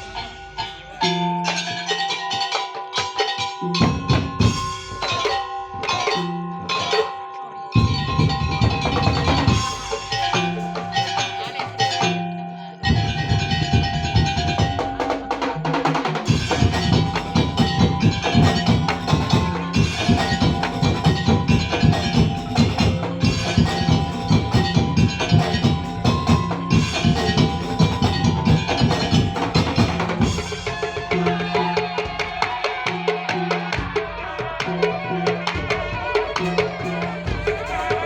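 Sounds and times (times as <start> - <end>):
wooden slit drums and drums: 0.0 - 38.0.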